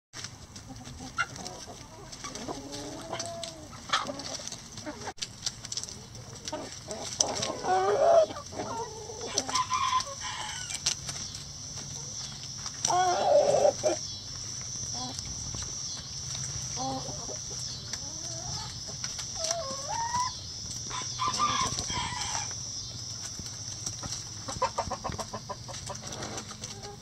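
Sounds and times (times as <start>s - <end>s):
chickens clucking: 0.2s - 27.0s.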